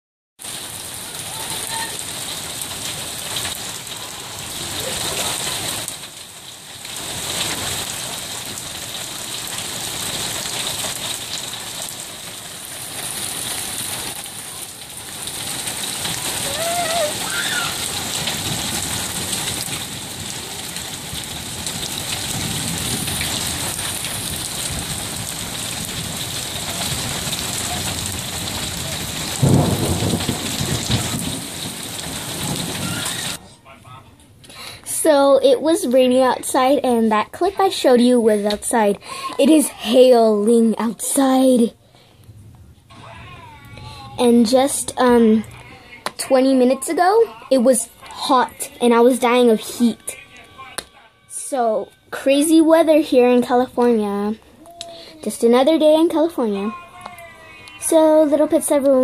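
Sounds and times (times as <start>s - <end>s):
rain on wet concrete: 0.4s - 59.0s.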